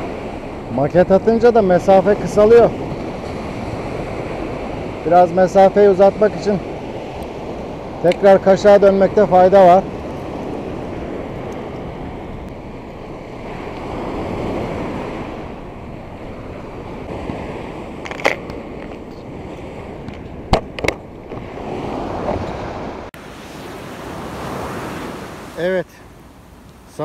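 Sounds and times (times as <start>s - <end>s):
small surf washing up beach: 0.0s - 20.1s, 20.8s - 27.0s.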